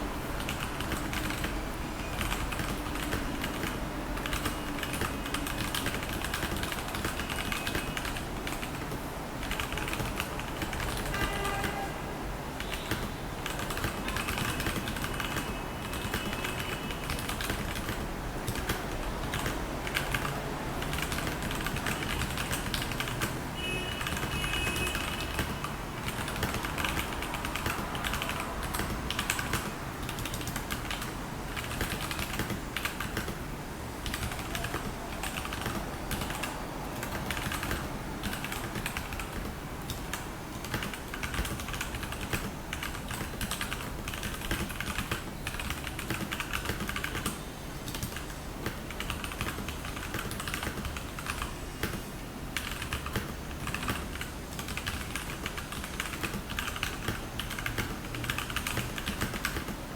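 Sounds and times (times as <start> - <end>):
fast typing on mechanical keyboard: 0.3 - 11.8, 12.6 - 33.4, 34.0 - 59.9.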